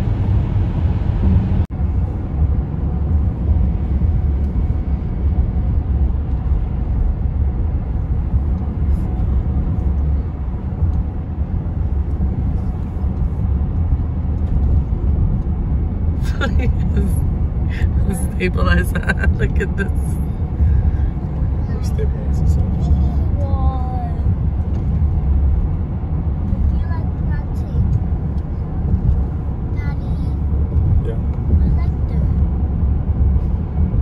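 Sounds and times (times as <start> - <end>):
car road rumble: 0.0 - 34.0.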